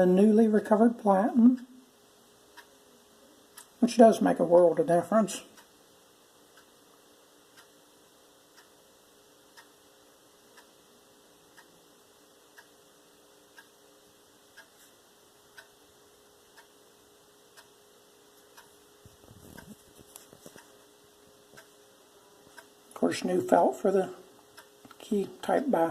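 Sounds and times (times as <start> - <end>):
clock ticking: 0.0 - 2.8, 3.5 - 7.8, 8.4 - 8.8, 9.4 - 25.9
low steady hum: 0.0 - 25.9.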